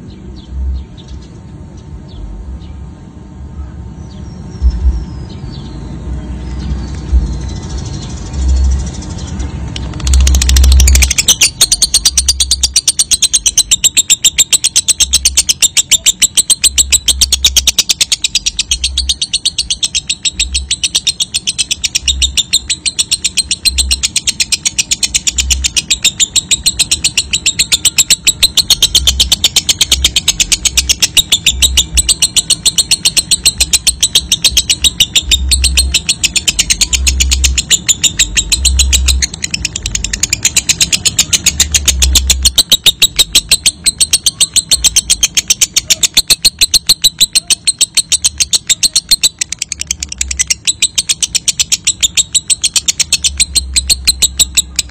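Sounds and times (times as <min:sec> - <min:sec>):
lovebird chattering song: 0:04.1 - 0:54.9.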